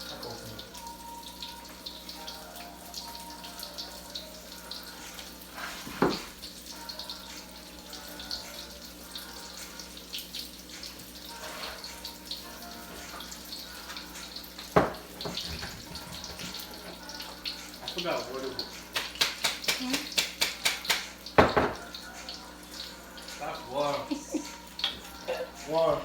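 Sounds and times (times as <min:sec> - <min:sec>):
water splashing in a sink: 0:00.0 - 0:26.0.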